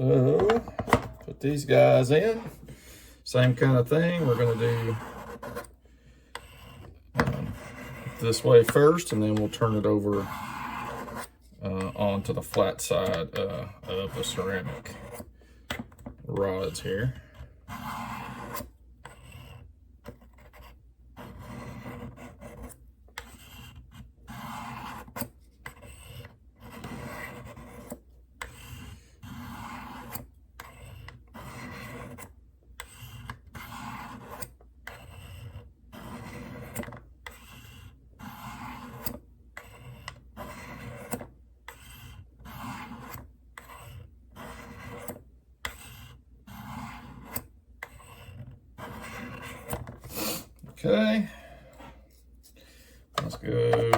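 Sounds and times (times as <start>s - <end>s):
knife scraping on ceramic rods: 0.0s - 5.8s, 6.4s - 15.3s, 16.3s - 53.9s.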